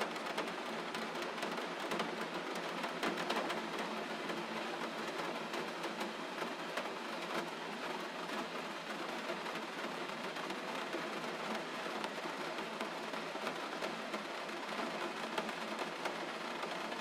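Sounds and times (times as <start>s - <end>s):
gentle rain falling: 0.0s - 17.0s.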